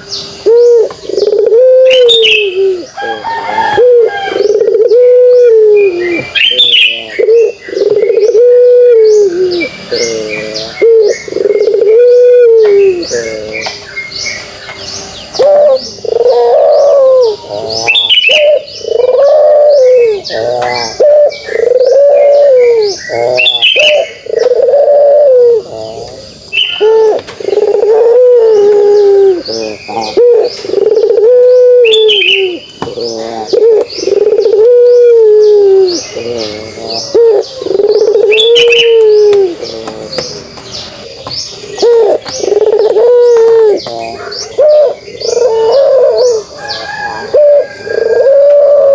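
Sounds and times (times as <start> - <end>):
dove cooing: 0.4 - 13.8, 15.2 - 48.9.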